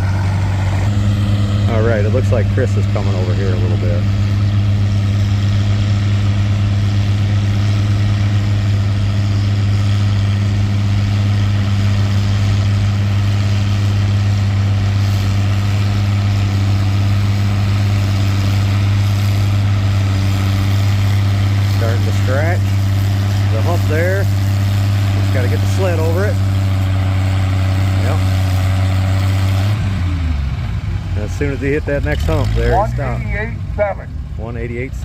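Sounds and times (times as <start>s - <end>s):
tractor engine drone: 0.0s - 35.0s.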